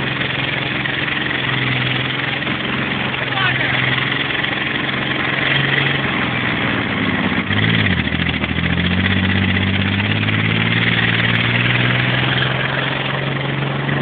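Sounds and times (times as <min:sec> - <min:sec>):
armoured vehicle engine running hard: 0:00.0 - 0:14.0
rushing and clattering noise: 0:00.0 - 0:14.0.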